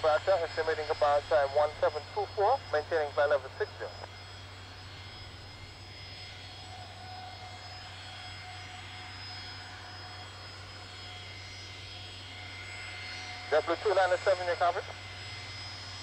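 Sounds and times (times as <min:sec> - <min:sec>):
constant low hum: 0:00.0 - 0:16.0
distant jet engines: 0:00.0 - 0:16.0.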